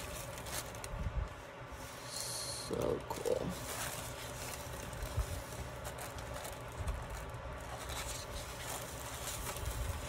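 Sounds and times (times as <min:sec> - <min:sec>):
paper rustling: 0:00.0 - 0:02.0, 0:03.1 - 0:10.0.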